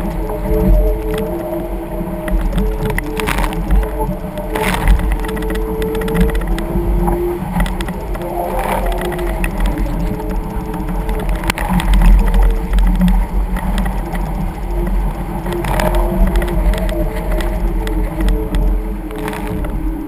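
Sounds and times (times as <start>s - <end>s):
water rushing: 0.0s - 20.0s
wavering hum: 0.0s - 20.0s
wind buffeting microphone: 0.0s - 20.0s.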